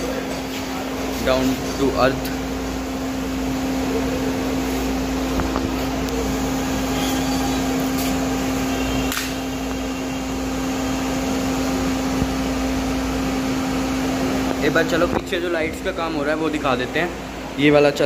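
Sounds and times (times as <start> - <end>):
steady machine hum: 0.0 - 18.0.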